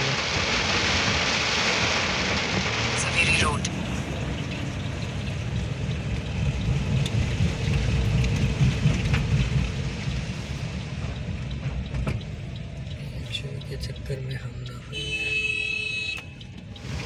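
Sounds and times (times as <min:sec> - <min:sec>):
car driving rumble: 0:00.0 - 0:17.0
heavy rain on car roof: 0:00.0 - 0:17.0.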